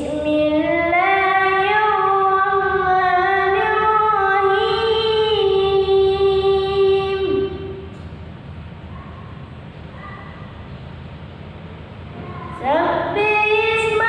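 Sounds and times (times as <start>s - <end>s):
child chanting recitation: 0.0s - 7.8s, 8.9s - 10.5s, 12.1s - 14.0s.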